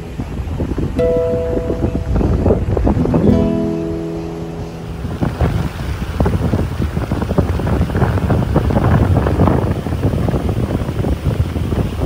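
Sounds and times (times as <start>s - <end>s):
stream rushing over riffles: 0.0s - 12.0s
wind buffeting microphone: 0.0s - 12.0s.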